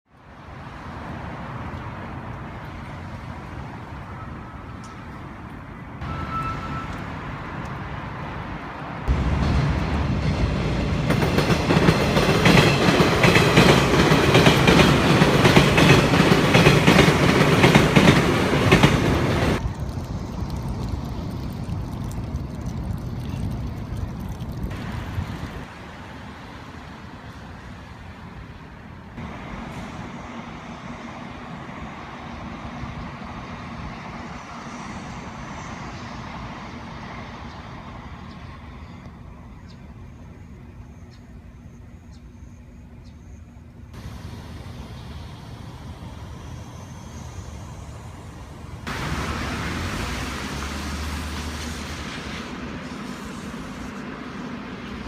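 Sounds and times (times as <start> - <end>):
trains running with low hum: 0.5 - 55.0.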